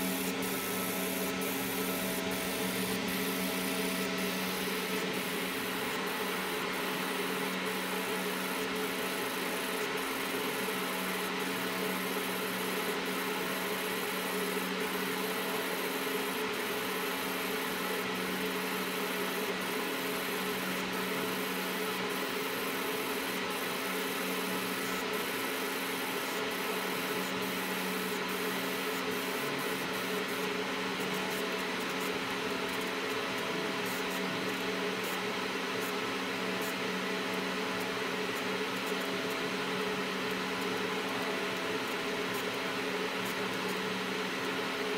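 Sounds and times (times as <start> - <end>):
laser machine humming with hiss: 0.0 - 44.9.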